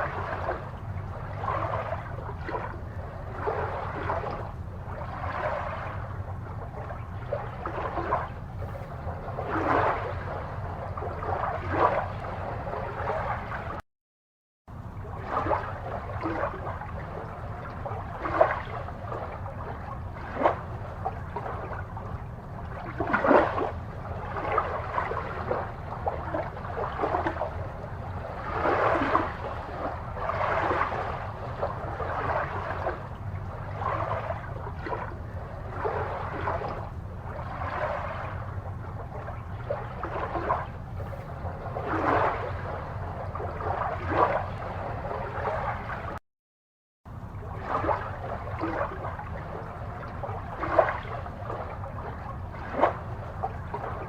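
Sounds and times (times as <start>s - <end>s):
aquarium water bubbling: 0.0s - 13.8s, 14.7s - 46.2s, 47.1s - 54.0s
low steady hum: 0.0s - 13.8s, 14.7s - 46.2s, 47.1s - 54.0s.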